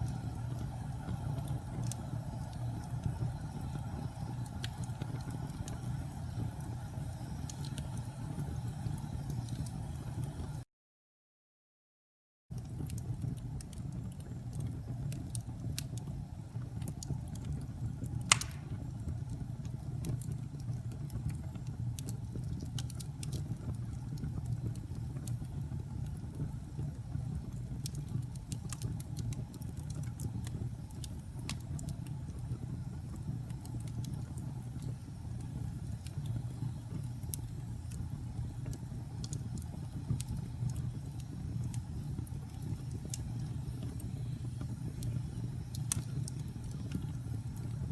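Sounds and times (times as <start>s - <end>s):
wood fire crackling and popping: 0.0s - 10.6s, 12.6s - 47.9s.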